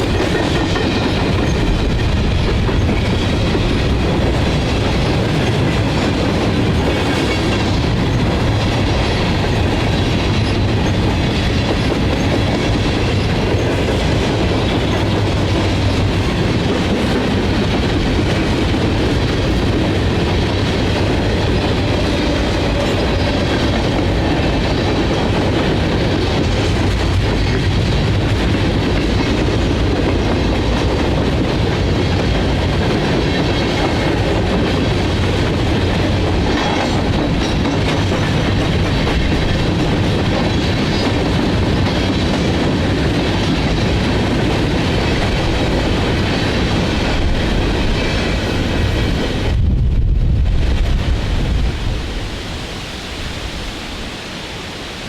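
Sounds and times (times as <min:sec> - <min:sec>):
train wheels clicking on rails: 0:00.0 - 0:52.5.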